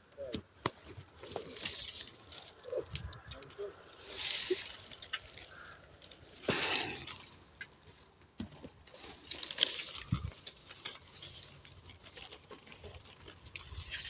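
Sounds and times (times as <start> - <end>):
leaves and twigs rustling: 0.0 - 14.0
soft knocks against branches: 0.2 - 3.5, 4.1 - 14.0.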